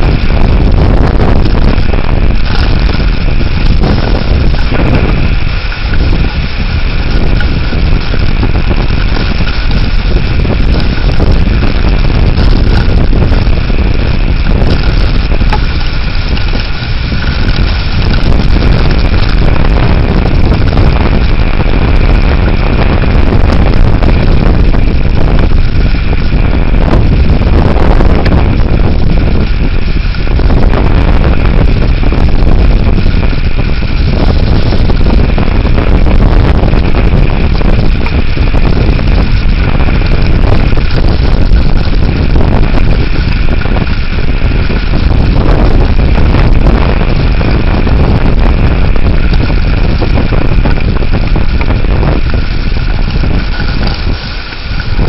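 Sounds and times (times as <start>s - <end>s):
wind gusting across microphone: 0.0s - 55.0s.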